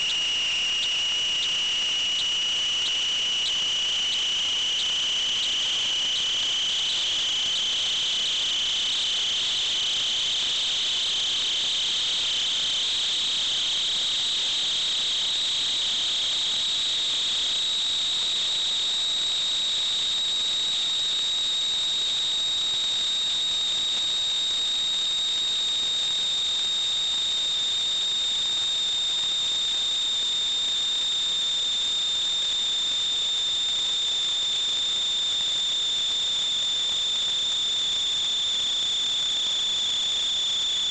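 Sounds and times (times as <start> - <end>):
high-pitched electronic whine: 0.0 - 40.9.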